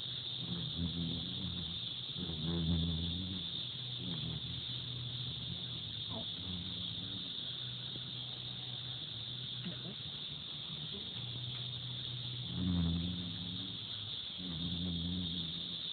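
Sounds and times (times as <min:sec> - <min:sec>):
high insect trill: 0:00.0 - 0:15.9
insect wings buzzing: 0:00.0 - 0:15.9.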